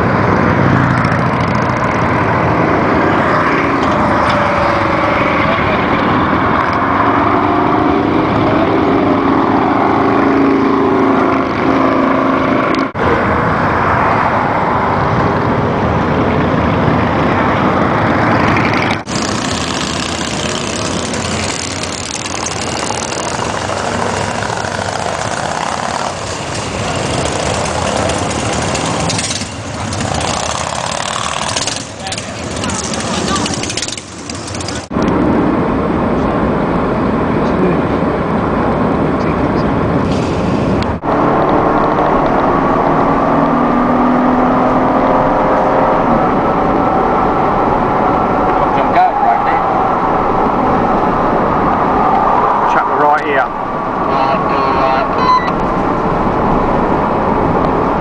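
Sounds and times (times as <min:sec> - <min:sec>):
motorcycle engine: 0:00.0 - 0:38.5, 0:40.8 - 0:48.8
wind rush on microphone: 0:00.0 - 0:58.0.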